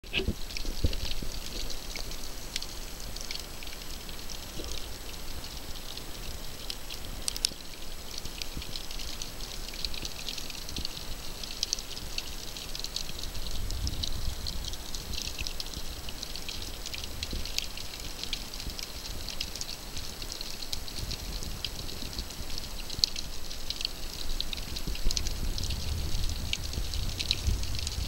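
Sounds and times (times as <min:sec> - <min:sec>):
low rumble of water movement: 0:00.0 - 0:28.0
crackle of tiny underwater clicks: 0:00.1 - 0:28.0.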